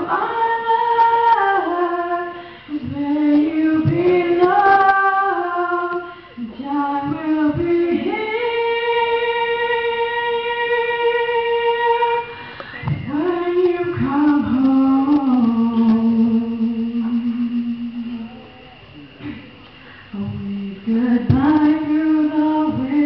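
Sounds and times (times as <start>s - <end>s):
woman singing: 0.0s - 18.6s, 20.1s - 23.0s.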